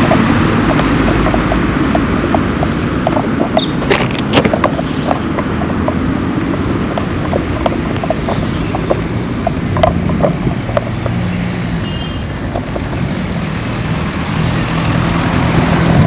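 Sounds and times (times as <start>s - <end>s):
street traffic noise: 0.0s - 16.0s
vehicle engine running: 0.0s - 16.0s.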